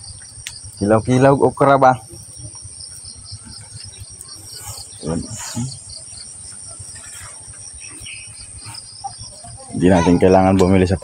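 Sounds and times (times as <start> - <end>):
continuous high trill: 0.0 - 11.0
insects chirping: 0.0 - 11.0.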